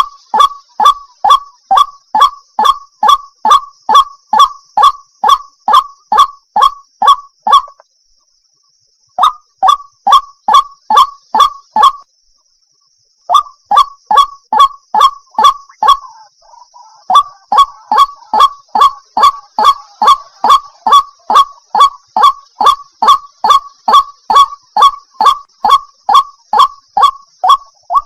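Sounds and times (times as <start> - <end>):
waterhen calling: 0.0 - 7.8, 9.2 - 12.0, 13.3 - 28.0.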